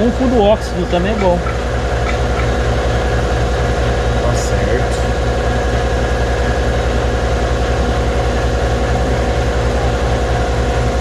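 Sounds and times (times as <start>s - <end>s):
machine throbbing: 0.0s - 11.0s.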